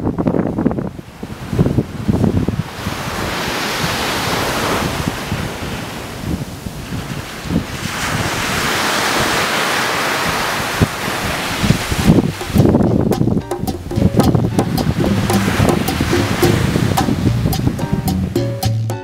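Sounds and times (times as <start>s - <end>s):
wind buffeting microphone: 0.0s - 18.1s
surf washing onto beach: 1.1s - 13.3s, 14.2s - 17.8s.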